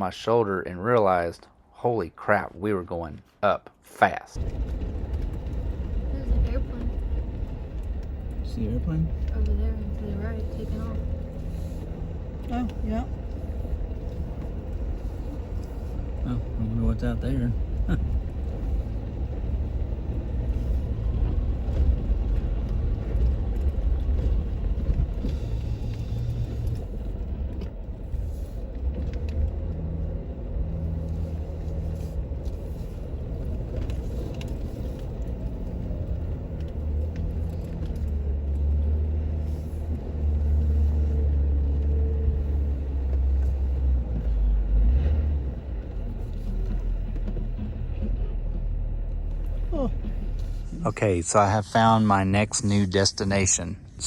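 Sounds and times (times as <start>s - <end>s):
off-road vehicle engine droning: 4.1s - 54.0s.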